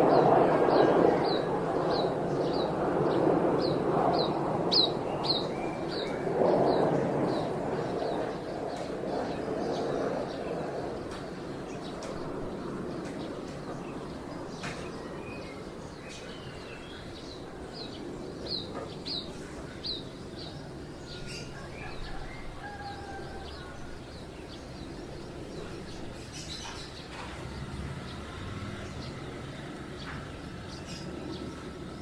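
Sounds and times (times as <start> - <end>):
small birds chirping: 0.1 - 32.0.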